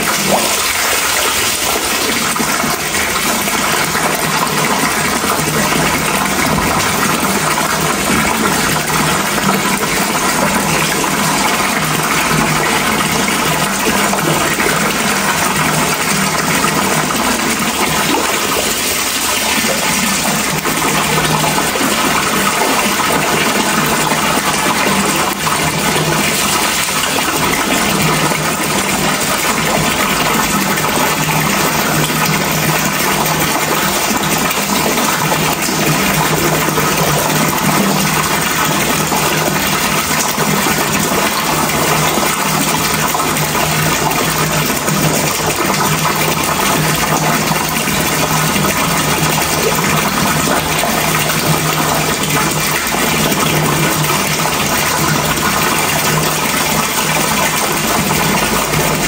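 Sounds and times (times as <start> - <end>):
loud rushing water: 0.0 - 59.0.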